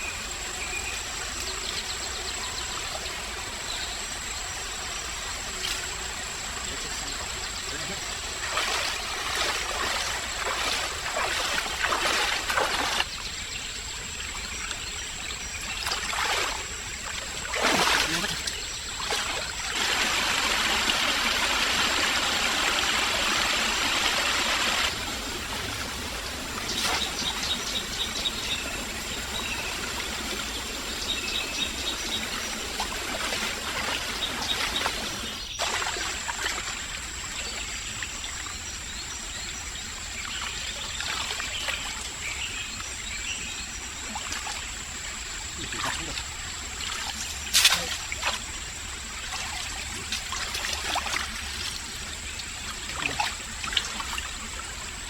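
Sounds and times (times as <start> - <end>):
stream water trickling: 0.0 - 55.0.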